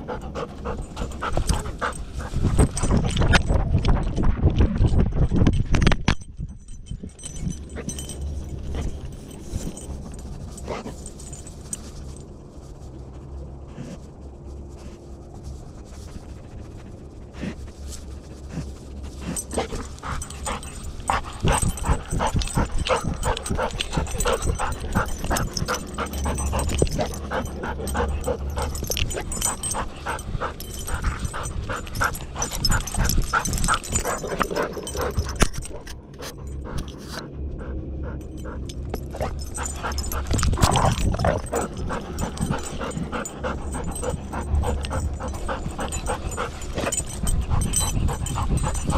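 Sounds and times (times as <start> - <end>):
dog panting: 0.0 - 4.0, 7.2 - 12.0, 15.6 - 48.9.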